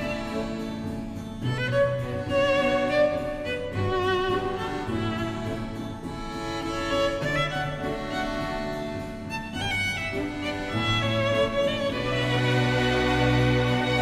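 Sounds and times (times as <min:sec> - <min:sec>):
violin and strings music: 0:00.0 - 0:14.0.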